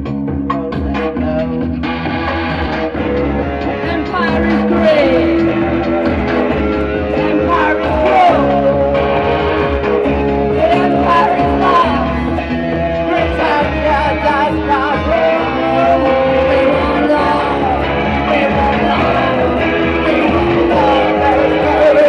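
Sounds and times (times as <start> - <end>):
person singing: 0.0 - 22.0
punk band playing loudly: 0.0 - 22.0.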